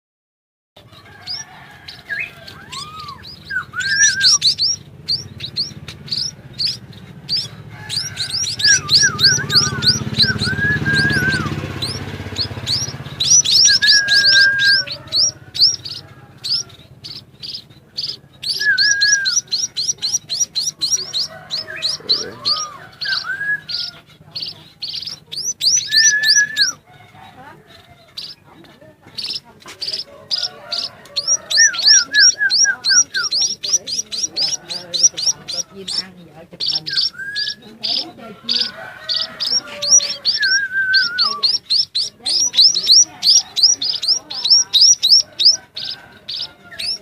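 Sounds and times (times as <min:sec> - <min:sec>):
bird chirping: 0:00.8 - 0:47.0
bird whistles: 0:02.0 - 0:26.8, 0:29.2 - 0:36.0, 0:36.6 - 0:47.0.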